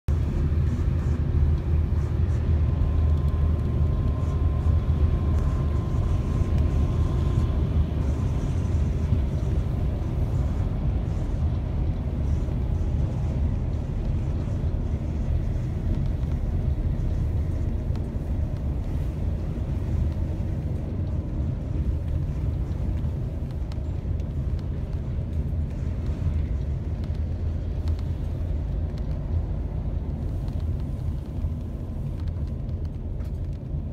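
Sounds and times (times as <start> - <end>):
vehicle engine and tyre rumble: 0.0 - 33.9.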